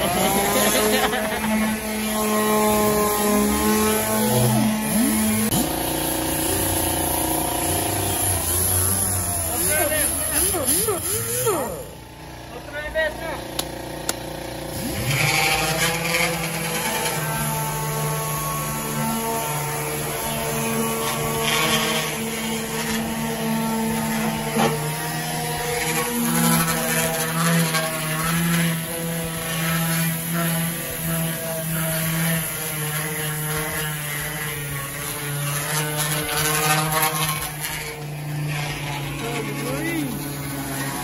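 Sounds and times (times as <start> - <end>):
orbital sander on metal: 0.0 - 41.0.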